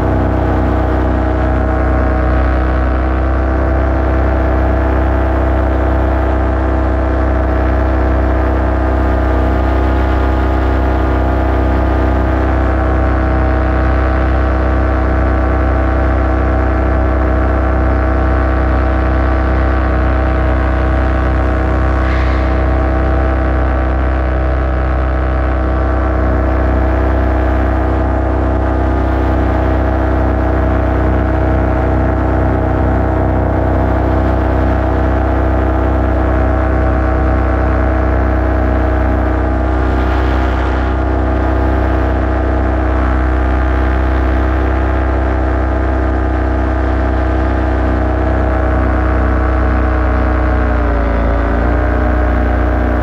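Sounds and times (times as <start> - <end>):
paramotor engine droning: 0.0 - 53.0.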